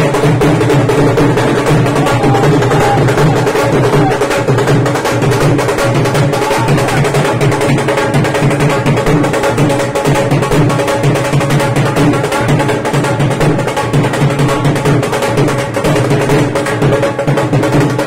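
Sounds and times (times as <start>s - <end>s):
dhol drums beating fast: 0.0s - 18.0s.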